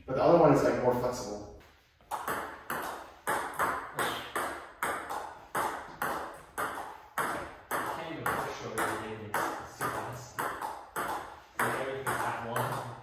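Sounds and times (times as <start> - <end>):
table tennis ball pinging: 2.0 - 13.0.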